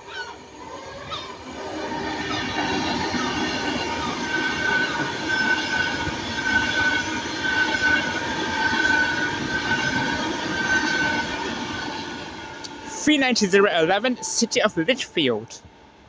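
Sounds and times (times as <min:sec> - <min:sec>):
electric train whine: 0:00.0 - 0:16.0
rolling rail noise: 0:00.0 - 0:16.0.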